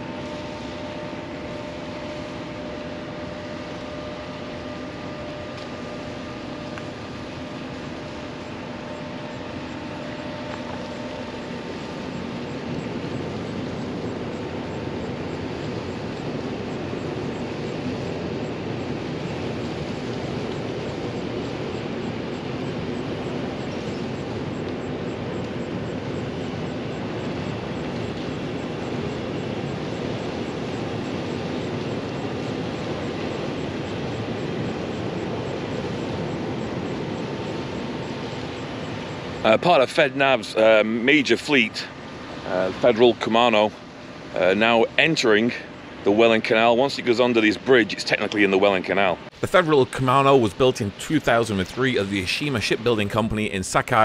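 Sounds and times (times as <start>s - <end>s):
ship engine drone: 0.0s - 54.0s.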